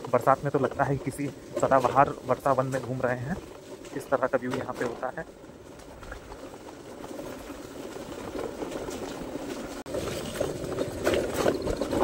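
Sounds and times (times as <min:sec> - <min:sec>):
footsteps on pavement: 0:00.0 - 0:12.0.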